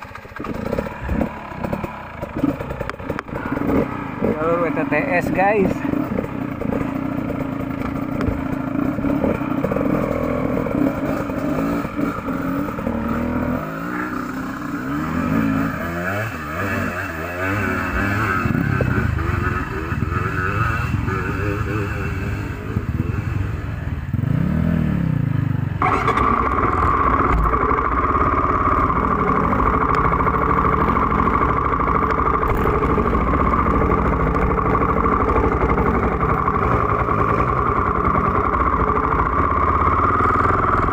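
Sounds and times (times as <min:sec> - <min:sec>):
dirt bike engine running steadily: 0:00.0 - 0:40.9
dirt bike engines revving: 0:00.0 - 0:40.9.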